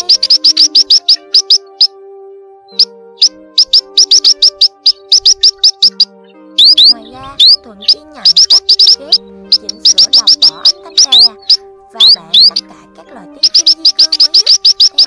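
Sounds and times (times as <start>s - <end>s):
young birds chirping: 0.0s - 1.9s, 2.7s - 15.0s
background music with held notes: 0.0s - 15.0s.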